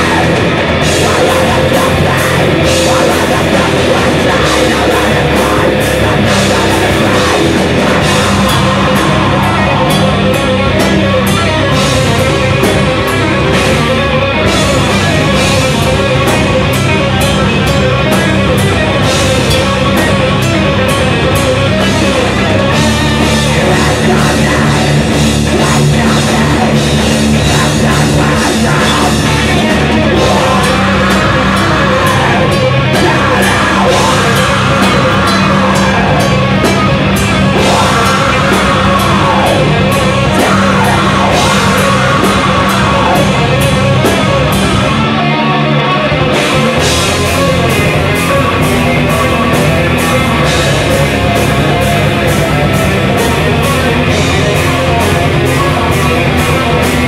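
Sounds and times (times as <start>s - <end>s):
bass guitar: 0.0s - 57.0s
distorted electric guitars: 0.0s - 57.0s
drum kit: 0.0s - 57.0s.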